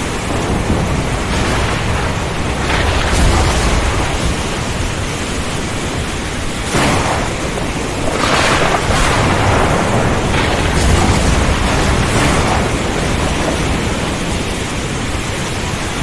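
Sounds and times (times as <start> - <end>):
heavy rain hissing: 0.0 - 16.0
strong wind: 0.0 - 16.0
thunder crash: 0.0 - 16.0.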